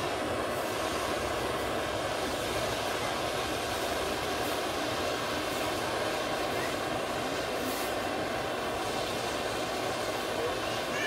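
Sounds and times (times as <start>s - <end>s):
fogger hissing rush: 0.0s - 11.0s.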